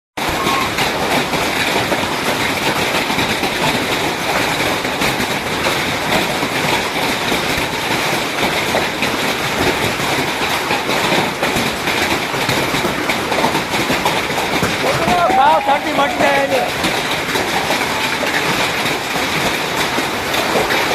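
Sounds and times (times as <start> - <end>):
hailstones clattering: 0.2 - 20.9
heavy rain: 0.2 - 20.9.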